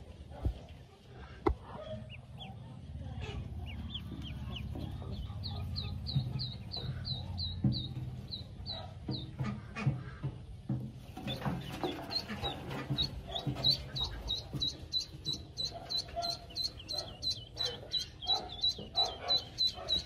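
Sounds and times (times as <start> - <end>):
ducklings peeping: 0.0 - 20.0.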